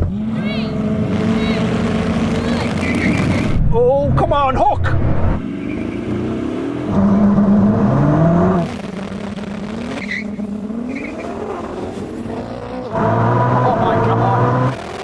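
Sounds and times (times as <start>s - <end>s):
cars accelerating hard: 0.0s - 3.7s, 4.8s - 15.0s.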